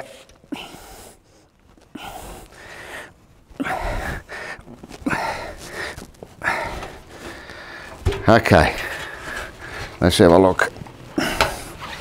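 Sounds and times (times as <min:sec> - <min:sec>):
strained breaths: 0:00.0 - 0:10.0, 0:11.1 - 0:12.0.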